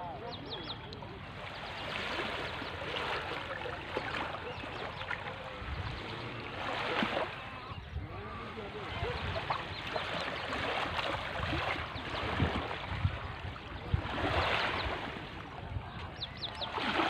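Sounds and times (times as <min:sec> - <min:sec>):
waves washing against shore: 0:01.2 - 0:15.8, 0:16.5 - 0:17.0.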